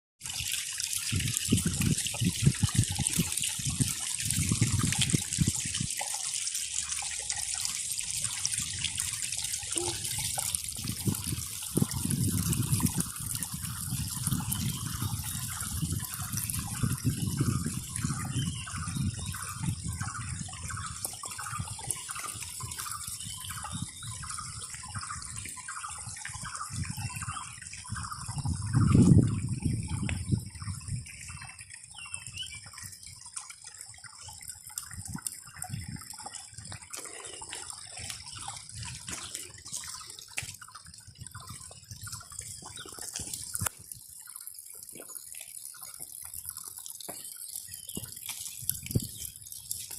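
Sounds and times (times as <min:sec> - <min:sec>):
water running: 0:00.2 - 0:30.3, 0:32.8 - 0:49.9.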